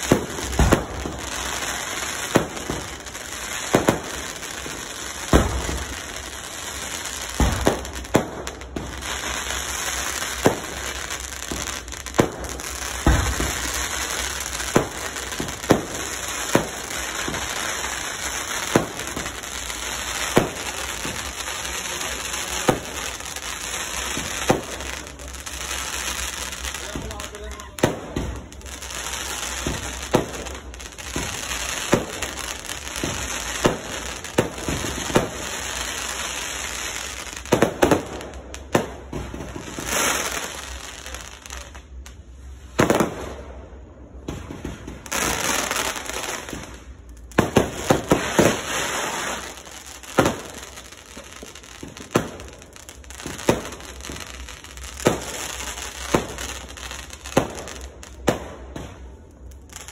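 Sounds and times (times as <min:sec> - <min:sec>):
fireworks bangs: 0:00.0 - 0:59.9
fireworks crackling and hissing: 0:00.0 - 0:59.9.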